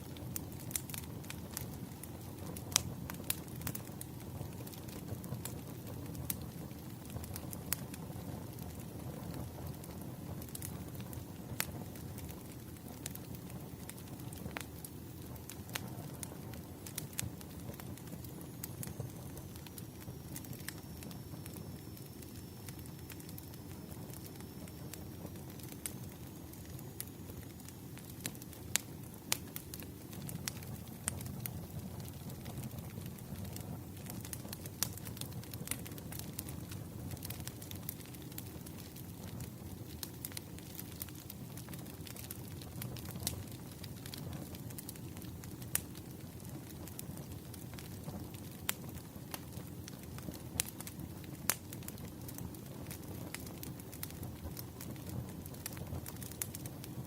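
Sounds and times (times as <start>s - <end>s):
bonfire crackling: 0.0s - 57.0s.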